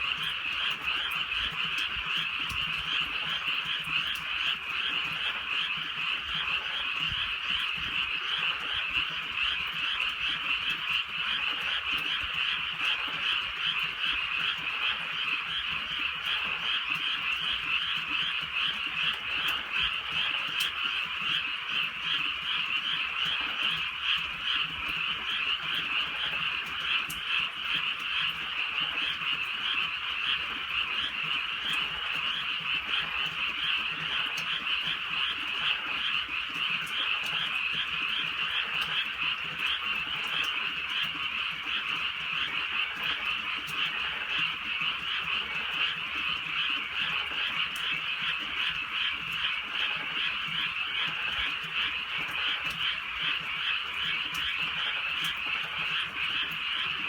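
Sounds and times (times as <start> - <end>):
faint light rain: 0.0 - 57.0
frogs croaking: 0.0 - 57.0.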